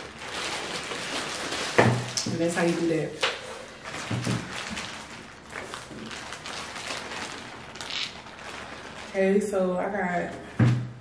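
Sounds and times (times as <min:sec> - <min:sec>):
plastic bags rustling and crinkling: 0:00.0 - 0:10.9.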